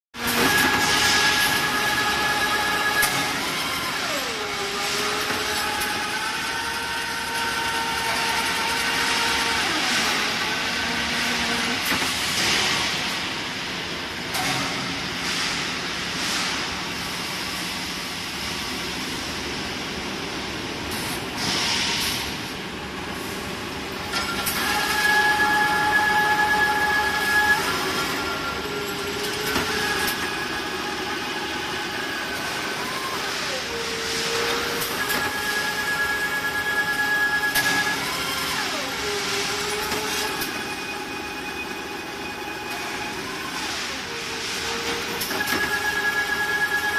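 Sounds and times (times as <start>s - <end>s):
whining motor tones: 0.2s - 14.8s, 23.8s - 46.9s
rolling mill mechanical din: 0.2s - 46.9s.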